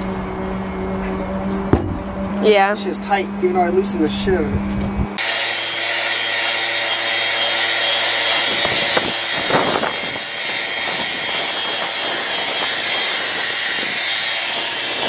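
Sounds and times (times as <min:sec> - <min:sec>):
electric power sander running: 0:00.0 - 0:15.0.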